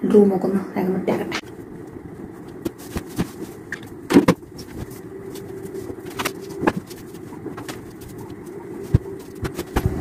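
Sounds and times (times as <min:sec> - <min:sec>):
steady low hum: 0:00.0 - 0:10.0
cloth rustling: 0:01.6 - 0:10.0.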